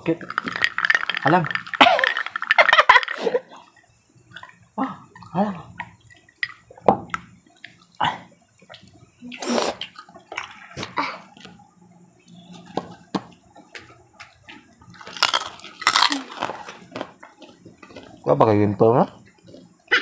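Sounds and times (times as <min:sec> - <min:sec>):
people chewing crunchy food: 0:00.0 - 0:04.6, 0:07.4 - 0:11.6, 0:12.3 - 0:20.0.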